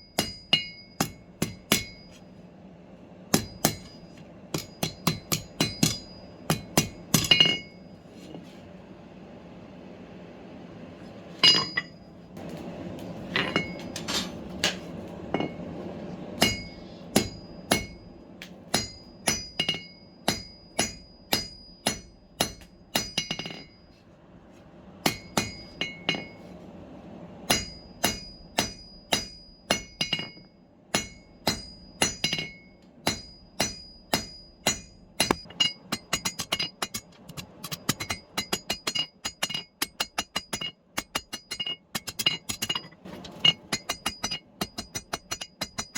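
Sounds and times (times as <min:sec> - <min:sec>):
hammer striking steel on anvil: 0:00.0 - 0:02.3, 0:03.3 - 0:07.9, 0:11.4 - 0:12.5, 0:13.4 - 0:15.7, 0:16.4 - 0:23.9, 0:25.0 - 0:26.4, 0:27.5 - 0:45.9.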